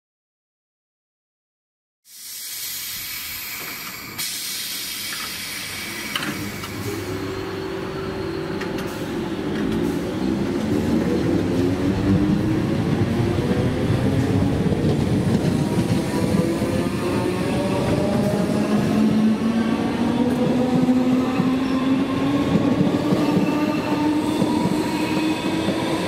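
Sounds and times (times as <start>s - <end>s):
wheels rumbling on rail: 4.9s - 26.0s.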